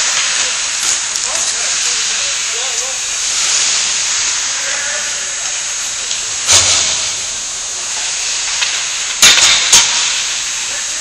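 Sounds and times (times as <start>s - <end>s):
ice rink hiss: 0.0s - 11.0s.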